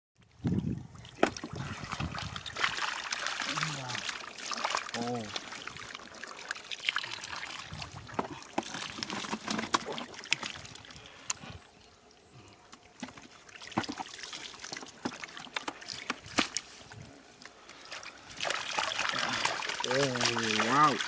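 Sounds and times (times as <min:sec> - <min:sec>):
shallow water splashing: 0:00.3 - 0:12.0, 0:12.8 - 0:21.0.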